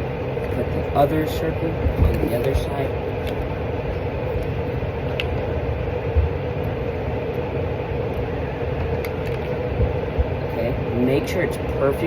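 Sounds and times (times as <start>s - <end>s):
machine rumble and hum: 0.0s - 12.0s.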